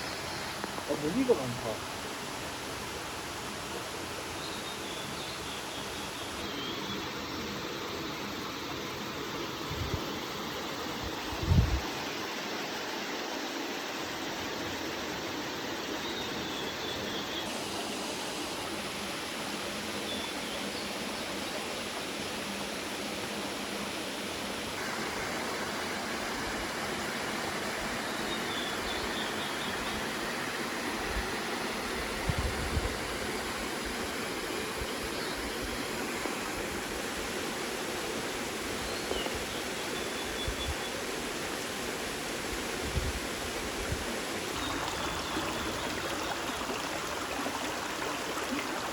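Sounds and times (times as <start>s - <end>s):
stream flowing: 0.0s - 48.9s.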